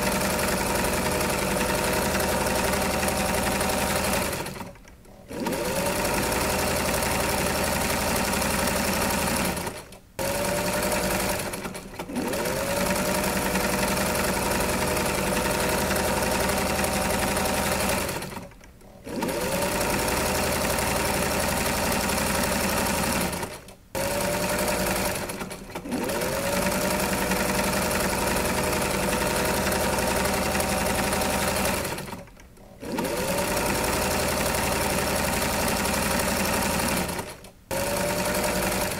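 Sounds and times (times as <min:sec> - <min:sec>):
electric sewing machine stitching: 0:00.0 - 0:38.9.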